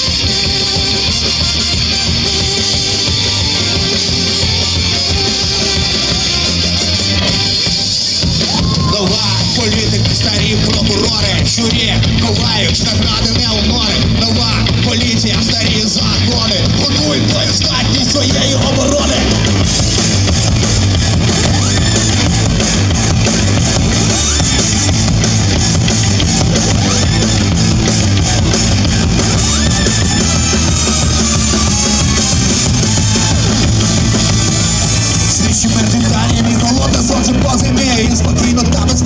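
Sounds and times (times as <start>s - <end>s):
bass guitar: 0.0s - 39.0s
drum kit: 0.0s - 39.0s
electric guitar: 0.0s - 39.0s.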